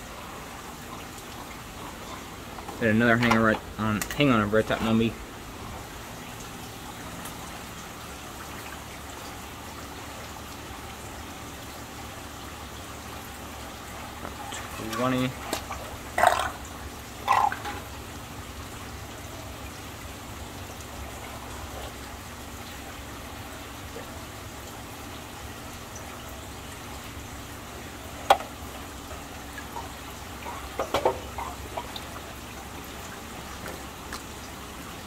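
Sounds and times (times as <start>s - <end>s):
aquarium water trickling: 0.0s - 35.0s.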